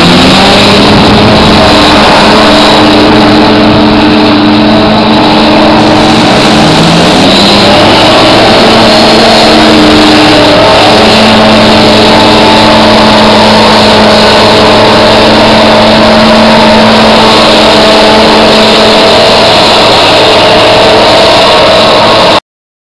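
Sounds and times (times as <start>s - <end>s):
hovercraft engine drone: 0.0s - 22.4s
rush of air and spray: 0.0s - 22.4s.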